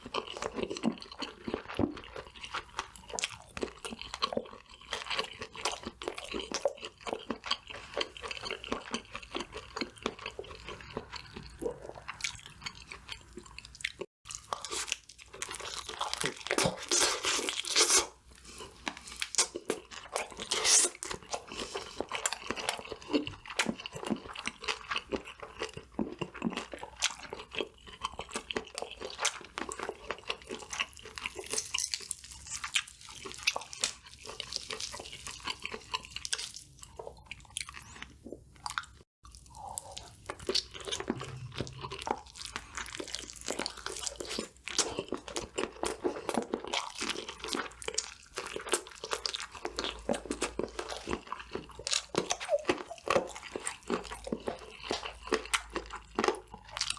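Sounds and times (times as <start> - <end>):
crunchy chewing of fried food: 0.0 - 56.9.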